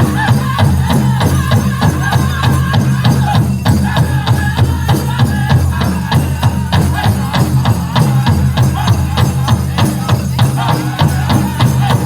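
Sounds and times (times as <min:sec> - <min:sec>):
group singing: 0:00.0 - 0:12.0
large drum fast beat: 0:00.0 - 0:12.0.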